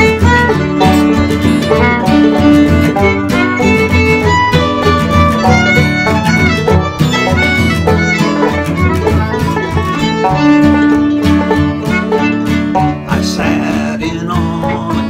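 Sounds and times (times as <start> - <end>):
fiddle melody: 0.0 - 15.0
string-band backing: 0.0 - 15.0
strummed guitar: 0.0 - 15.0.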